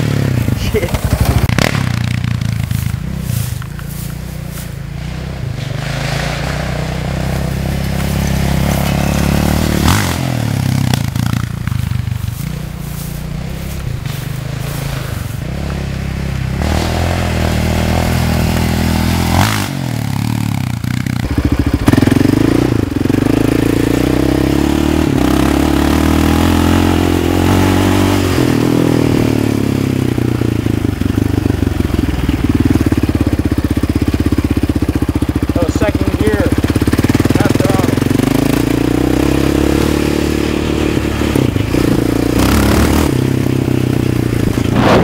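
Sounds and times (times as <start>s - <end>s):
quad bike engine revving: 0.0s - 45.0s.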